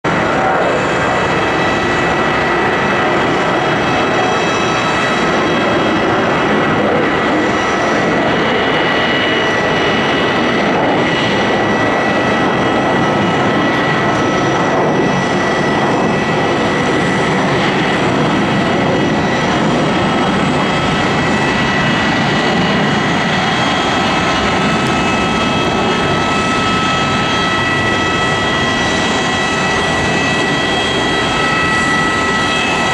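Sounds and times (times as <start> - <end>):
high engine whine: 0.0 - 32.9
jet engines taxiing: 0.0 - 32.9.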